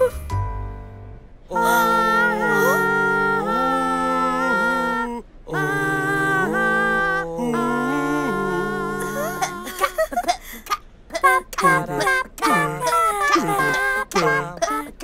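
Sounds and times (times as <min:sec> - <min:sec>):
cartoon voices singing in harmony: 0:01.5 - 0:10.1, 0:11.1 - 0:15.0.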